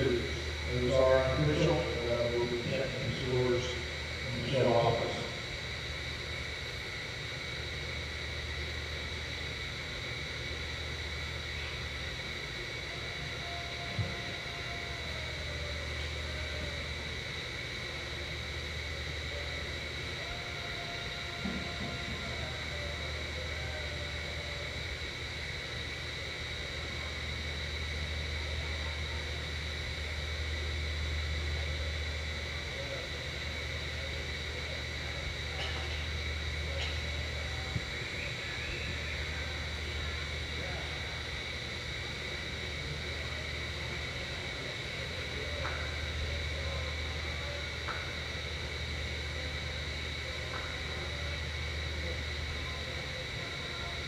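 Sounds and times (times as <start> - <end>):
faint high-pitched hum: 0.0 - 54.0
high-pitched whine and hiss: 0.0 - 54.0.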